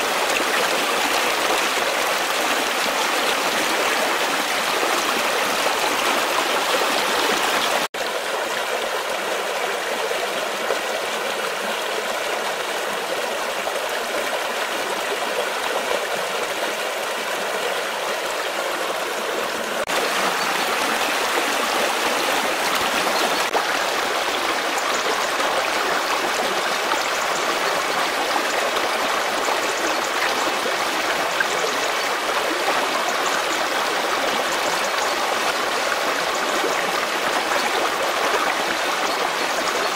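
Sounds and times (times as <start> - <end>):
water rushing over stones: 0.0 - 9.9, 14.4 - 39.9.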